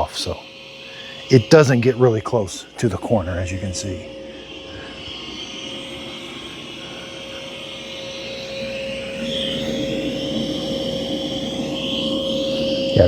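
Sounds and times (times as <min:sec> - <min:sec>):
robot vacuum motor whine: 0:00.0 - 0:13.0.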